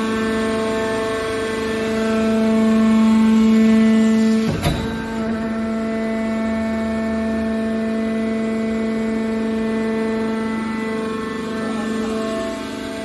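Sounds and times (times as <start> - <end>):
hydraulic motor and pump hum: 0.0 - 13.0.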